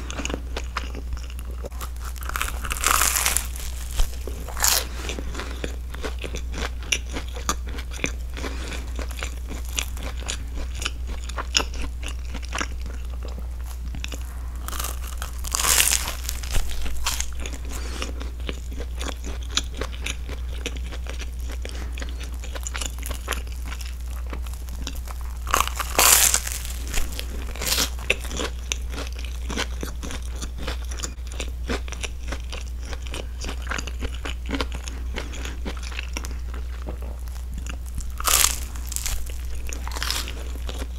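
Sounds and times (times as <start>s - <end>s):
low hum: 0.0s - 30.3s, 31.2s - 40.9s
chewing crunchy toasted bread: 0.0s - 40.9s.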